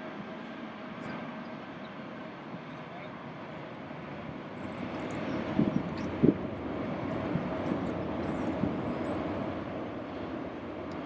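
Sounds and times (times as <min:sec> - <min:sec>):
jet engine rushing hum: 0:00.0 - 0:11.0.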